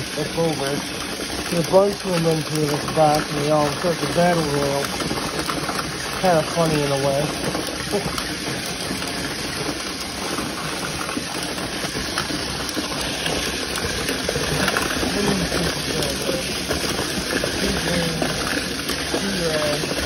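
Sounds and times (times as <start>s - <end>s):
plastic toy cars knocking: 0.0s - 20.0s
tiny electric motors whirring: 0.0s - 20.0s.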